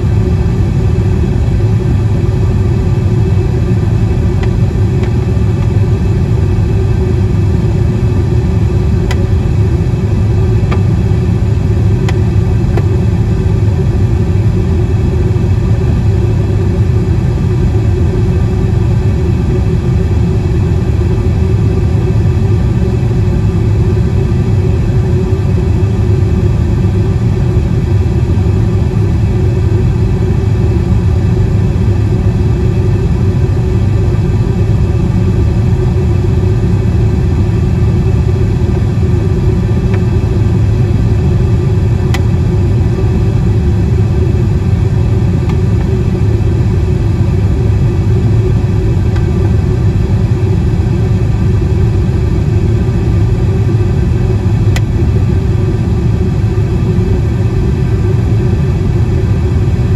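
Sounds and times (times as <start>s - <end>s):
airliner engines rumbling: 0.0s - 59.9s.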